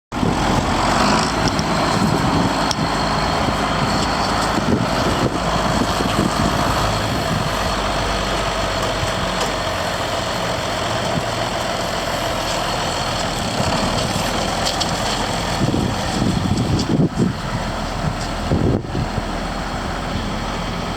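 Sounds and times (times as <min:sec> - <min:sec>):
tractor diesel engine running: 0:00.1 - 0:20.9.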